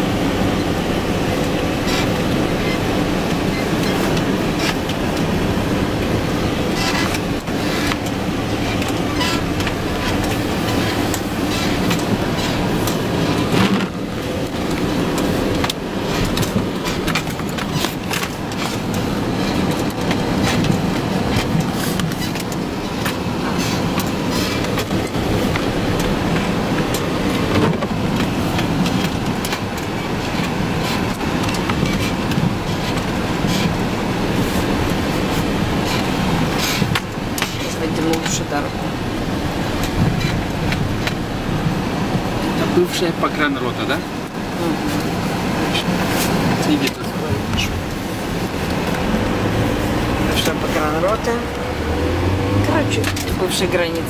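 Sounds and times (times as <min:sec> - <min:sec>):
vehicle knocks and rattles: 0:00.0 - 0:51.8
engine and road rumble: 0:00.0 - 0:54.0.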